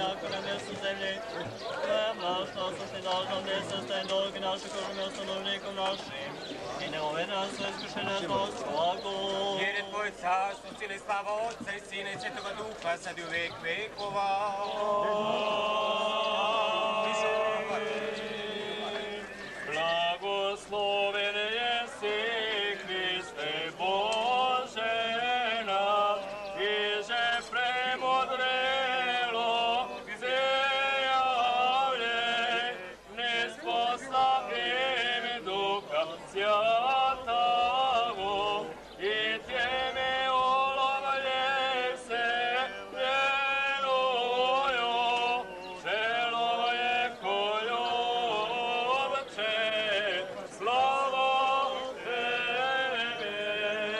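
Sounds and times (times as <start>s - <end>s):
men chanting a hymn: 0.0s - 53.9s.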